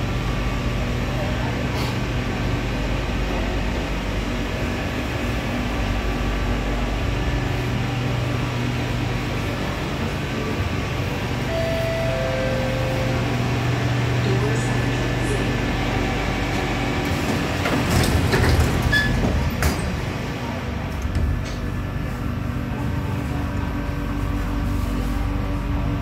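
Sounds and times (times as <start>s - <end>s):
train car air conditioning hum: 0.0s - 26.0s.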